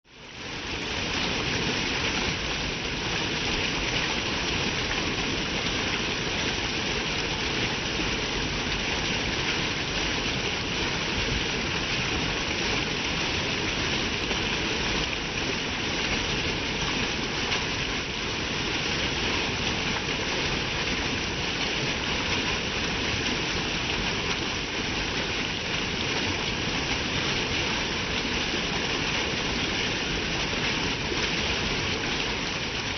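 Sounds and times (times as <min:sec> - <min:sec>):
stream water rushing: 0:00.1 - 0:32.9.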